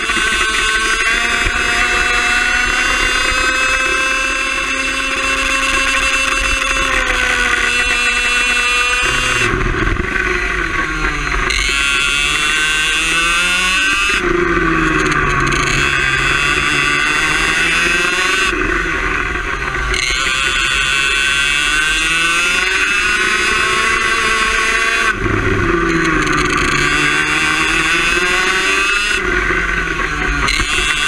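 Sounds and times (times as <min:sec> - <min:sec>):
kart engine at high revs: 0:00.0 - 0:31.0.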